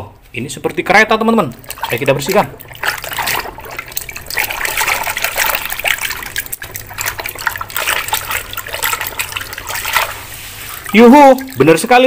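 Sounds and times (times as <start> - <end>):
water splashing in a bucket: 1.4 - 12.0.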